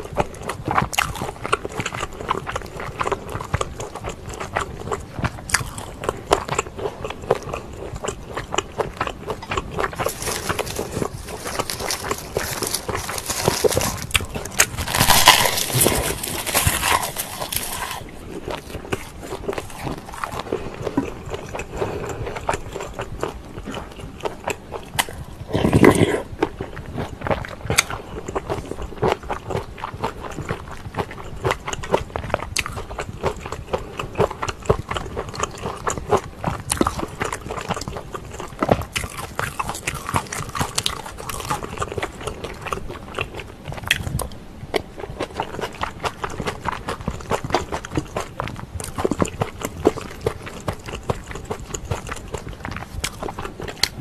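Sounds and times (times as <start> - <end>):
wet chewing and biting: 0.0 - 54.0.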